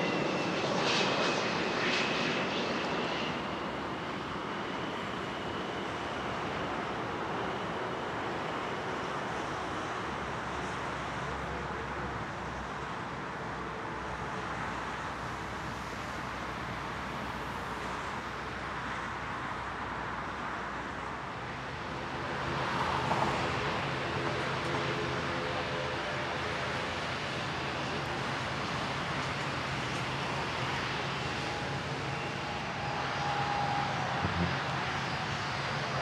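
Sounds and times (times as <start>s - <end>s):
turboprop propellers droning: 0.0s - 19.0s, 19.6s - 36.0s
jet airliner landing: 0.0s - 36.0s.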